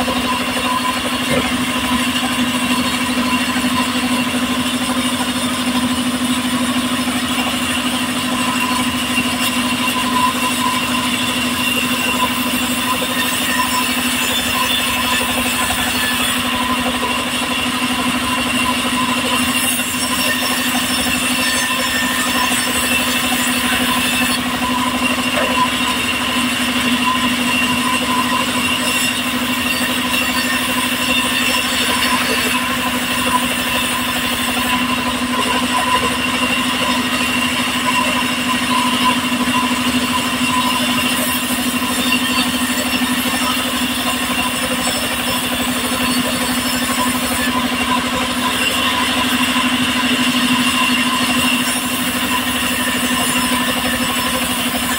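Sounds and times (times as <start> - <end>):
saw cutting a log: 0.0 - 54.9
sawmill engine drone: 0.0 - 54.9.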